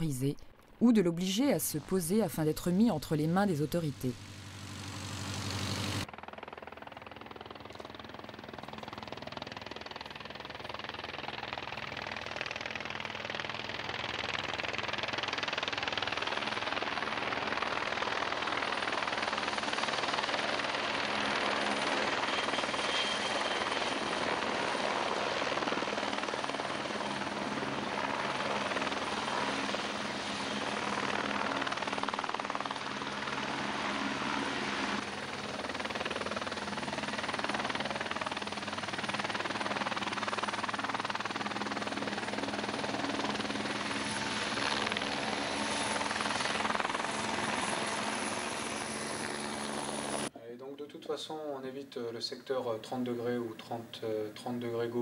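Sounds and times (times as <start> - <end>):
helicopter rotor and turbine noise: 0.0 - 50.3.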